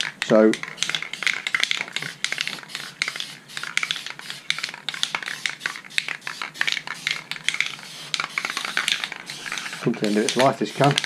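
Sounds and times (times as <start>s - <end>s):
spray can ball rattling: 0.0s - 11.0s.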